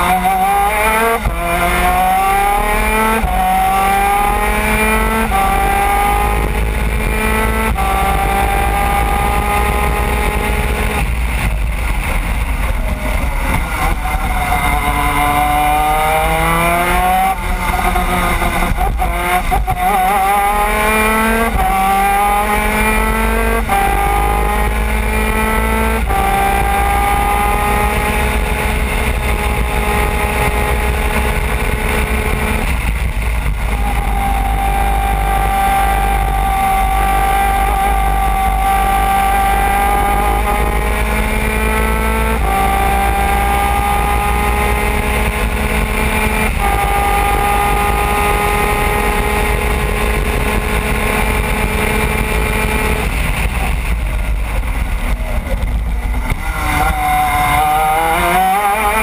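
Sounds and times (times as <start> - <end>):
racing kart engine revving: 0.0 - 59.0.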